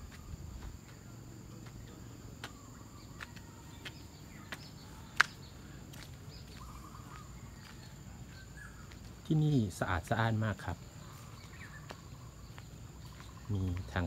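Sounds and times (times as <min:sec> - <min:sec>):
faint bird chirps: 0:00.0 - 0:14.0
footsteps on paved path: 0:00.0 - 0:14.0
insects droning: 0:00.0 - 0:14.0.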